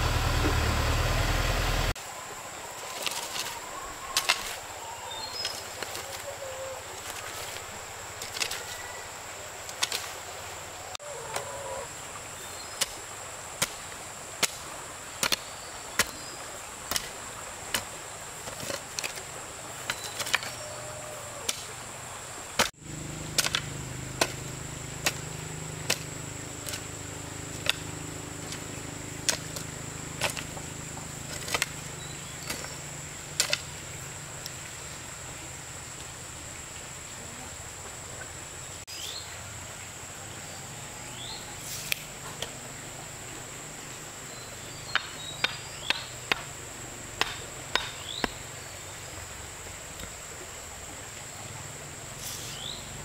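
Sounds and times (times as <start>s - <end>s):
high insect drone: 0.0s - 53.0s.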